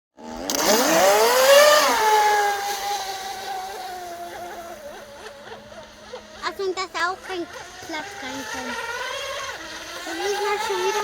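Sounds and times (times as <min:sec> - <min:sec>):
model boat motor whining: 0:00.2 - 0:11.0.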